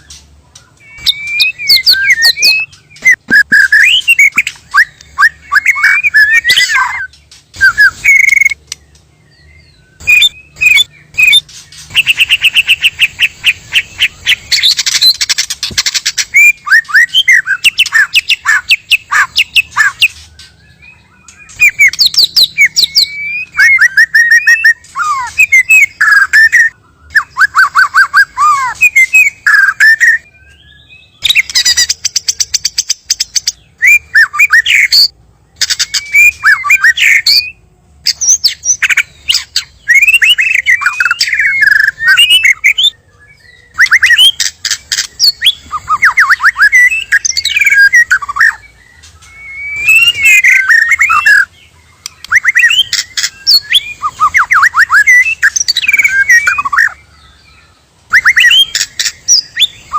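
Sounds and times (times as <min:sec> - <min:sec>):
bird singing whistled phrases: 0:00.7 - 0:59.9.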